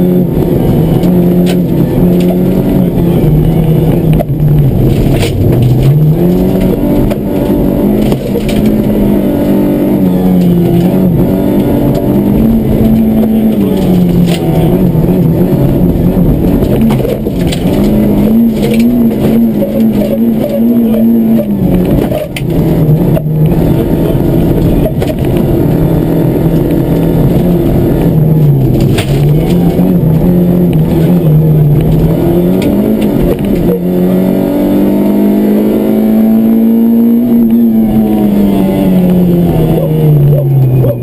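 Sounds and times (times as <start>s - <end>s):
rally car engine from cabin: 0.0s - 41.0s
road noise: 0.0s - 41.0s.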